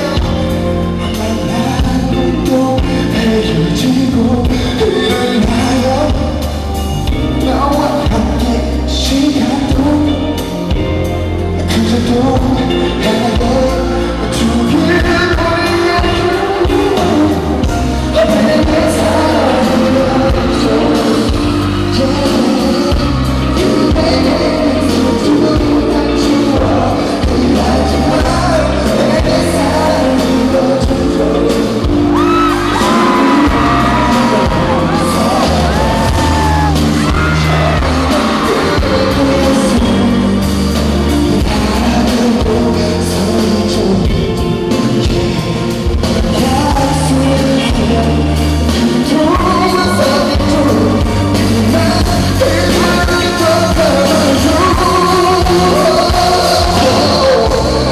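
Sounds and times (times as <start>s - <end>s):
backing track with heavy bass beat: 0.0s - 57.9s
male singer: 0.0s - 57.9s.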